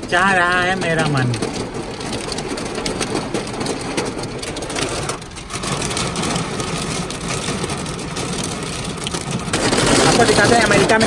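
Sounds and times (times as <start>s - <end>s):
hail and rain on car roof: 0.0s - 11.0s.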